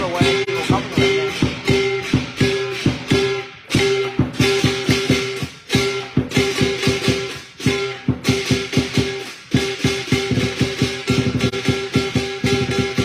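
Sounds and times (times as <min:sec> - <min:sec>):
cymbals clashing: 0:00.0 - 0:13.0
large drum beating fast: 0:00.0 - 0:13.0
ringing metal tone: 0:00.0 - 0:13.0.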